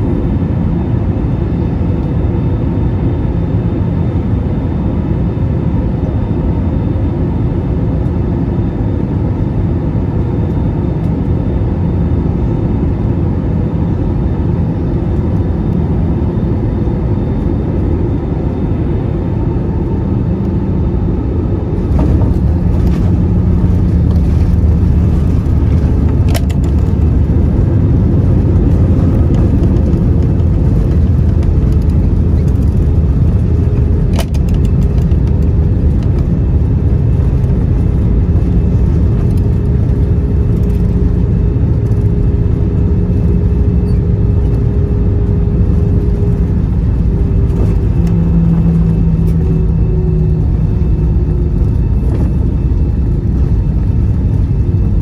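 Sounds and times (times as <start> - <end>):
aircraft cabin engine hum: 0.0 - 55.0.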